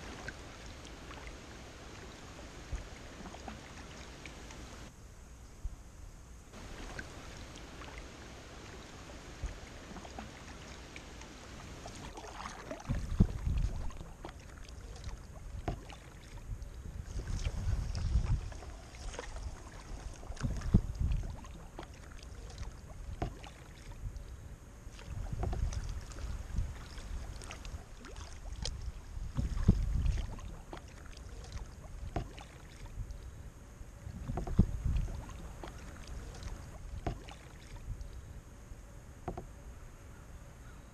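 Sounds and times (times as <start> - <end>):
paddle strokes in water: 0.0 - 4.9, 6.6 - 38.4
wind rumbling on microphone: 0.0 - 4.9, 5.5 - 14.4, 15.0 - 21.9, 22.6 - 30.9, 31.5 - 38.5.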